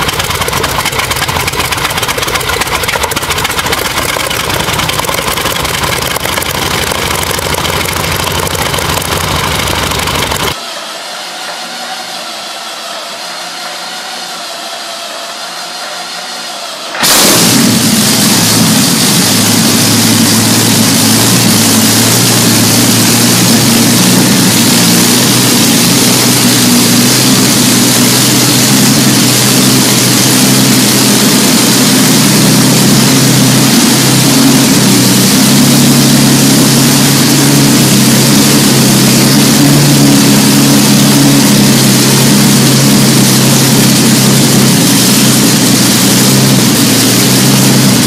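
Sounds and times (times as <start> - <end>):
aero engine running loud: 0.0 - 48.0.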